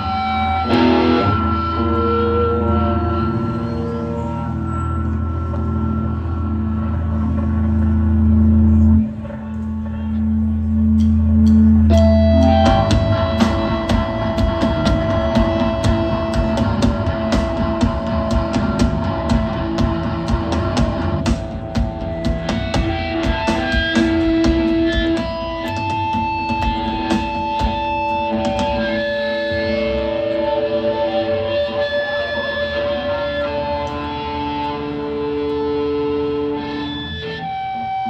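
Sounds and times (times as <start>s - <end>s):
drums: 0.0s - 38.0s
electric guitars: 0.0s - 38.0s.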